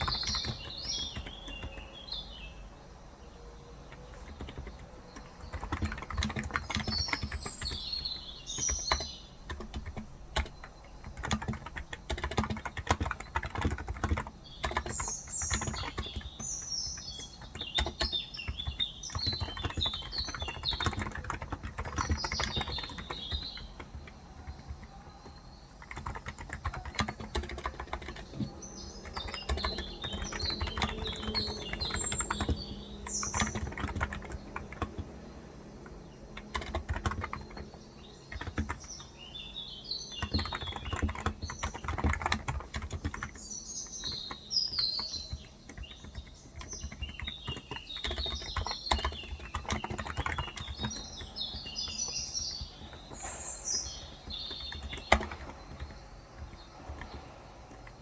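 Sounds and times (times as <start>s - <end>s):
keyboard typing: 0.0s - 2.6s, 3.3s - 58.0s
small birds chirping: 0.0s - 58.0s.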